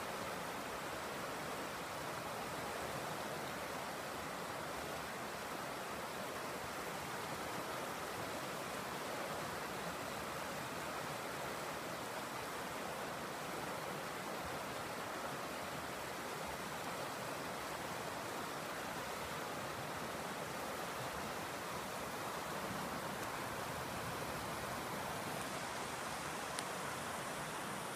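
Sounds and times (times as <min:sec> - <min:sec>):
water rushing over rocks: 0:00.0 - 0:27.9.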